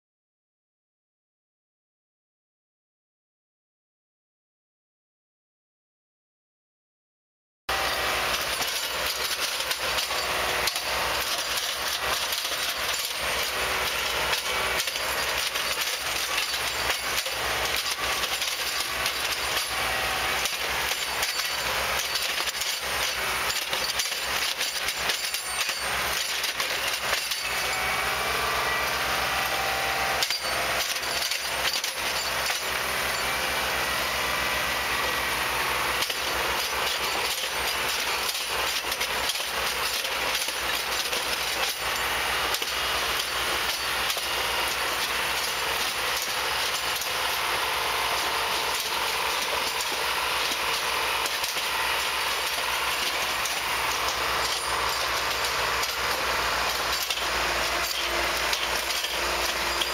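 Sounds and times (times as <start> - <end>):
machine engine running: 7.7 - 59.9
metallic clanks and clinks: 7.8 - 34.1, 35.9 - 59.9.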